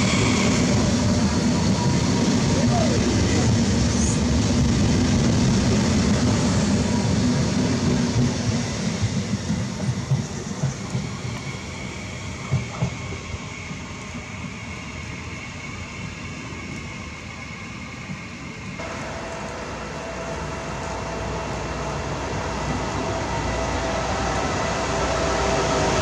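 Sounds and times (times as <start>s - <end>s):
electric train arriving: 0.0s - 26.0s
high-speed train rumble: 0.0s - 26.0s
train hum and whine: 0.0s - 26.0s.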